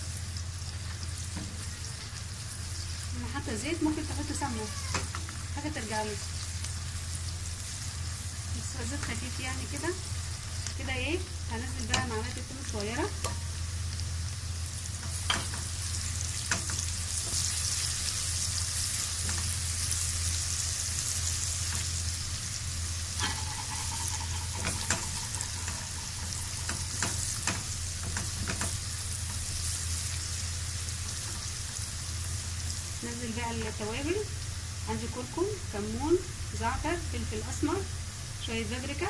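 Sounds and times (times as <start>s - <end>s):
onion and garlic sizzling: 0.0s - 39.0s.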